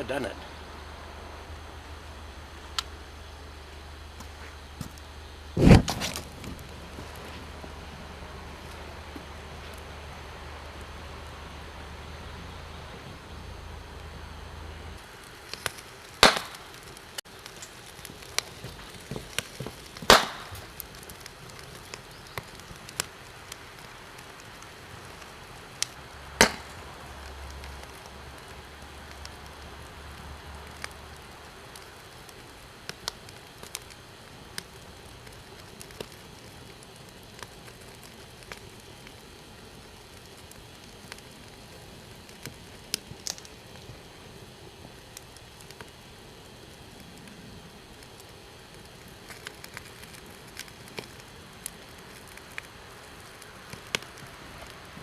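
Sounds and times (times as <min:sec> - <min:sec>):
crackling fire: 0:00.0 - 0:55.0
loud pops of fire: 0:01.5 - 0:55.0.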